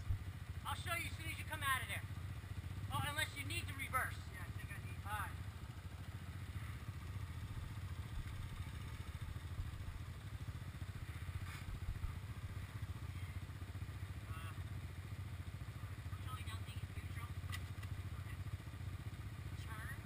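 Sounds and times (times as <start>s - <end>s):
atv engine idling: 0.0s - 20.0s.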